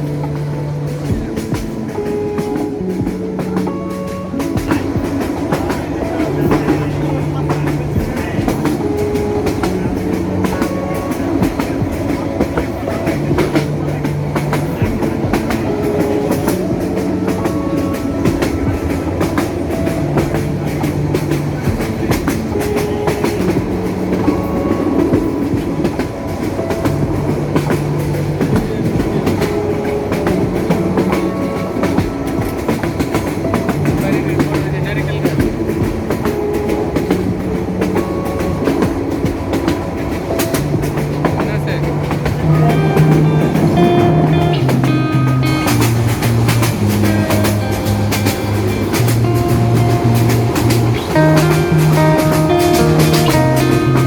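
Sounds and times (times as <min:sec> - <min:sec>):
train rumbling: 0:00.0 - 0:54.0
wheels clattering over rails: 0:00.0 - 0:54.0.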